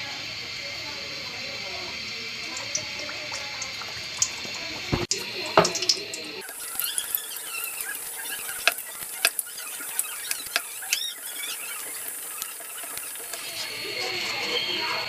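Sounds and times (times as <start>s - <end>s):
food deep-frying in hot oil: 0.0s - 15.0s
high chirps from bubbling oil: 0.0s - 15.0s
sharp crackles and pops: 1.9s - 15.0s.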